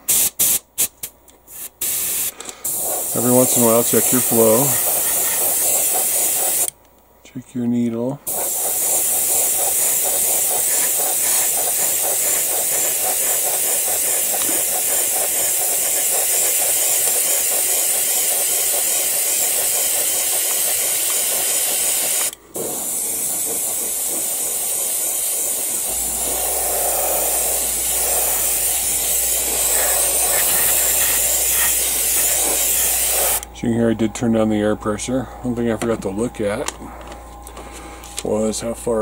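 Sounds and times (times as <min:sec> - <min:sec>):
airbrush spraying hiss: 0:00.0 - 0:06.7, 0:08.3 - 0:33.5.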